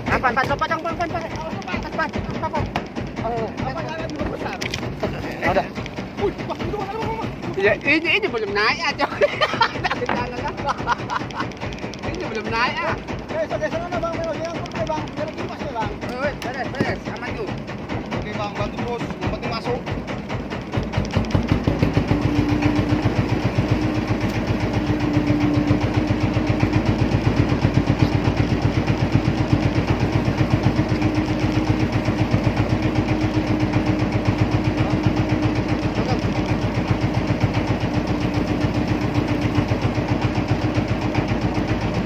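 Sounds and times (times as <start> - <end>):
boat engine chugging: 0.0 - 42.0.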